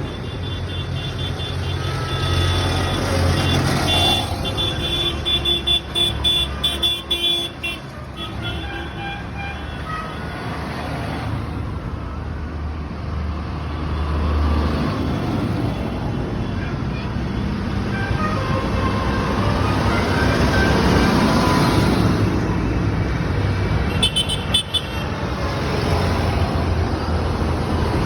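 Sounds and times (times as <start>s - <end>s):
tractor engines running: 0.0s - 28.0s.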